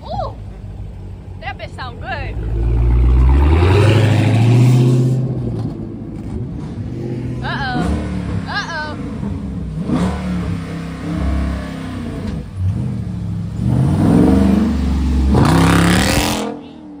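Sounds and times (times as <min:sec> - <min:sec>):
car engine revving: 0:00.7 - 0:17.0.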